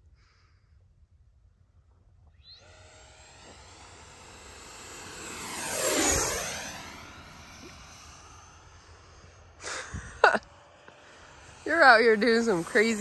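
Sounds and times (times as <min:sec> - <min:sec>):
model jet fan whine passing: 0:02.3 - 0:13.0.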